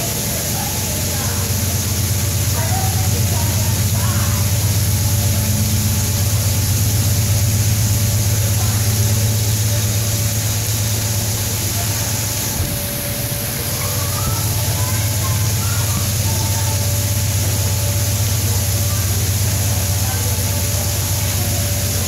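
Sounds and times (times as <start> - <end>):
train cars rumbling past: 0.0 - 22.0.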